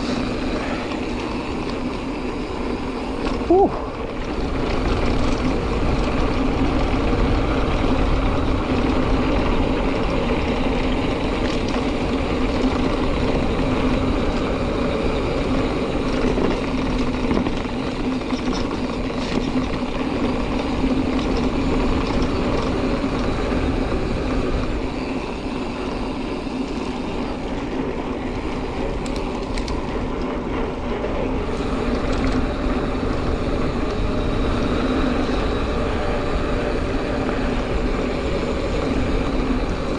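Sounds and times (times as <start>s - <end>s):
bike rattle: 0.0s - 39.9s
knobby tyres rolling on dirt: 0.0s - 39.9s
wind: 0.0s - 39.9s.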